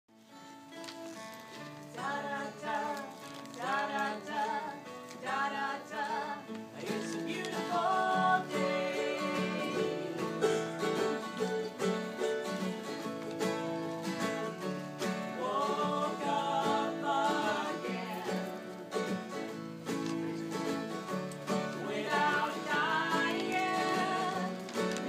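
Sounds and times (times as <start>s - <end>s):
acoustic guitar chords: 0.2s - 25.0s
plucked string instrument: 0.2s - 25.0s.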